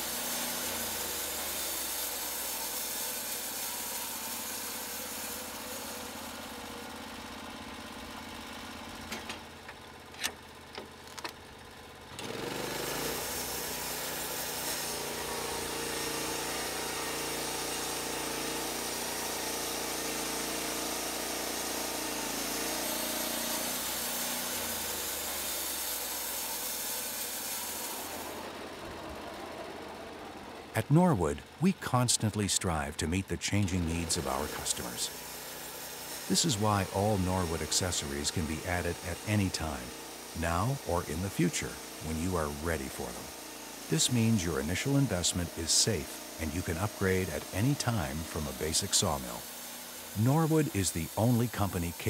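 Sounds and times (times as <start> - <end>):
louder steady engine: 0.0 - 52.0
small engine running: 0.0 - 52.0.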